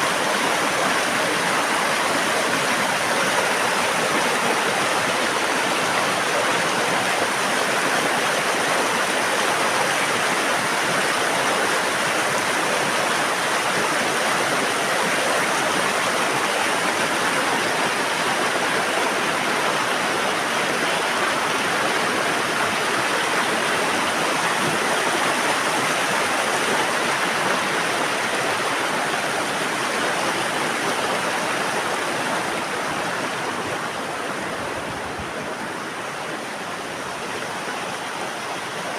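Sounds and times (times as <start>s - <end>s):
mountain river rushing: 0.0s - 38.9s.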